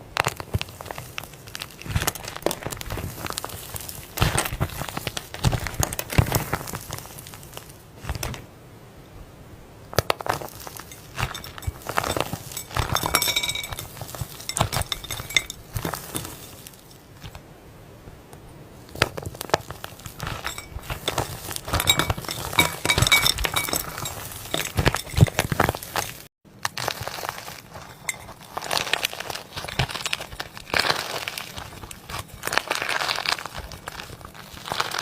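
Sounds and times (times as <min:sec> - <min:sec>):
slime clinking and crackling: 0:00.0 - 0:08.3, 0:10.0 - 0:17.4, 0:18.9 - 0:35.0.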